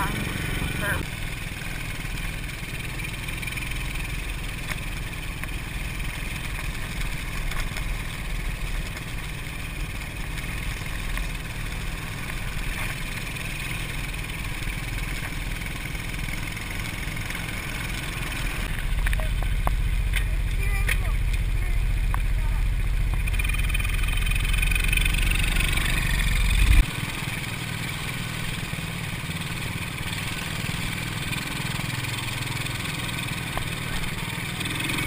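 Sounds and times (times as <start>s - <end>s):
atv engine running steadily: 0.0s - 35.0s.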